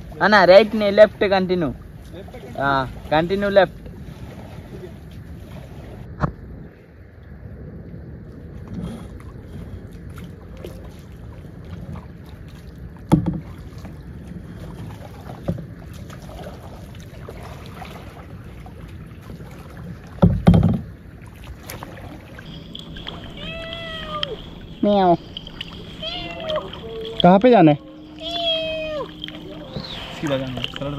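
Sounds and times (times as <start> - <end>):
kayak paddles in water: 0.0 - 30.9
low rush of water and wind: 0.0 - 30.9.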